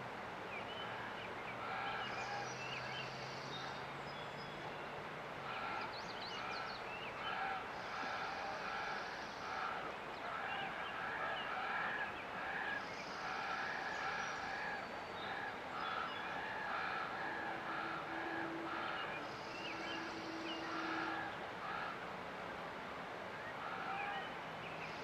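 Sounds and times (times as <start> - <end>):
faint steady hum: 0.0 - 25.0
river water rushing: 0.0 - 25.0.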